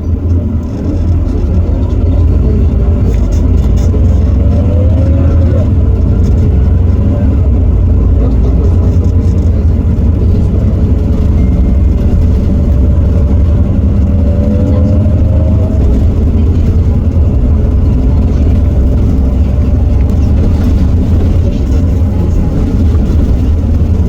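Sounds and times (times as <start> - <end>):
bus diesel engine droning: 0.0 - 24.0
faint whine: 0.0 - 24.0.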